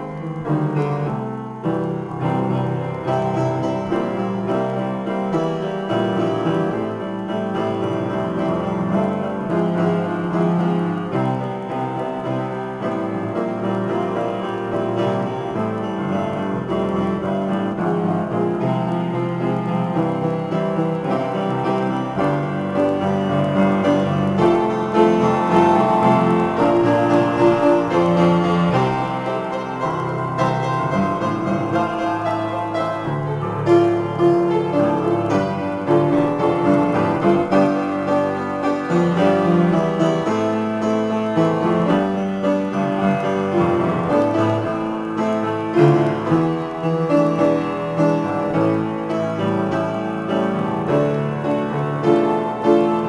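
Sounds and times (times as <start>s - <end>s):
solo piano improvisation: 0.0s - 53.0s.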